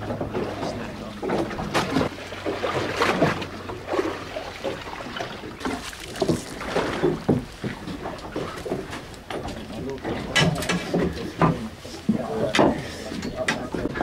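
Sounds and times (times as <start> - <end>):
low steady hum: 0.0 - 14.0
water slapping against boat hull: 0.0 - 14.0.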